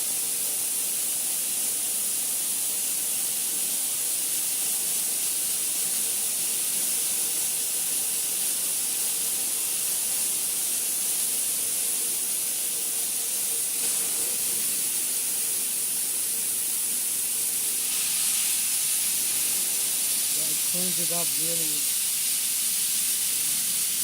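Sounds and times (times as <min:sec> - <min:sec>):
machine hissing like an air jet: 0:00.0 - 0:24.0.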